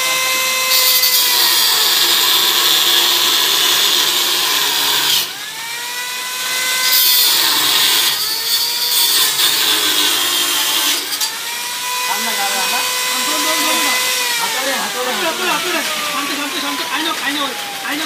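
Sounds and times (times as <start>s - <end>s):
angle grinder cutting metal: 0.0s - 18.0s.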